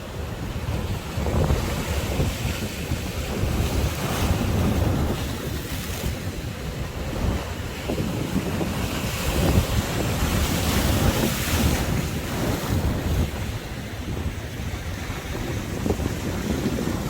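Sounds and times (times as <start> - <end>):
sea waves breaking: 0.0 - 17.0
wind buffeting microphone: 0.0 - 17.0.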